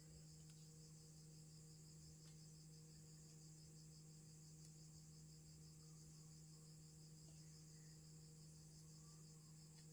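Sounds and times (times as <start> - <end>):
crickets trilling: 0.0 - 9.9
faint low hum: 0.0 - 9.9.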